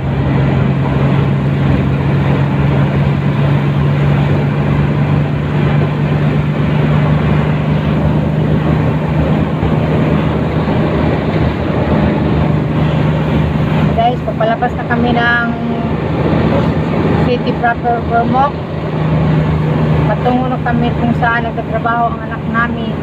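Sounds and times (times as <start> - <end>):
low engine hum: 0.0 - 23.0
road and wind noise: 0.0 - 23.0.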